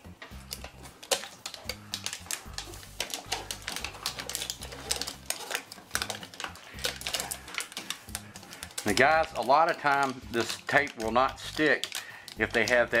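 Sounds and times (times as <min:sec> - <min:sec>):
foil tape crinkling: 0:00.2 - 0:13.0.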